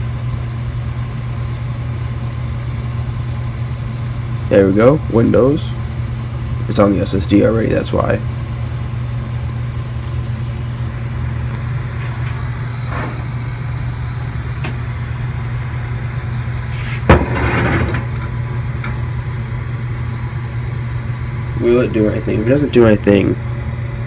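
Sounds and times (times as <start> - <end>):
computer fans humming: 0.0 - 24.0.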